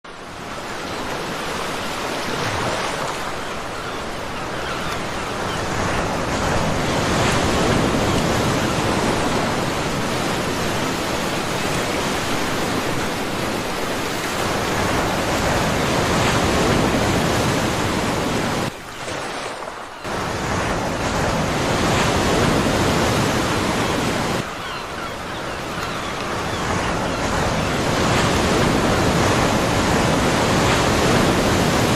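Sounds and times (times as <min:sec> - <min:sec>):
ocean waves breaking on beach: 0:00.1 - 0:31.9.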